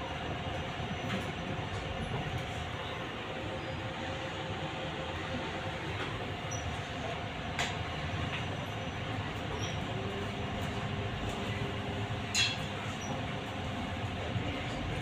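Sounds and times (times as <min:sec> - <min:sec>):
trolleybus cabin rumble: 0:00.0 - 0:15.0.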